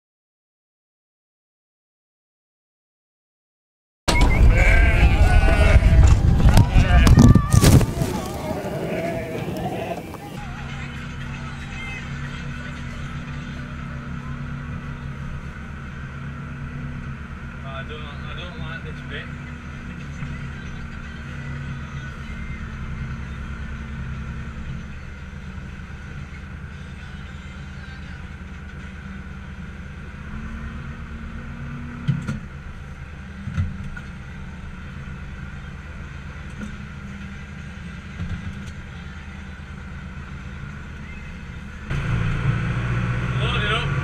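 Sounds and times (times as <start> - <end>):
tractor engine running: 4.1 - 44.0.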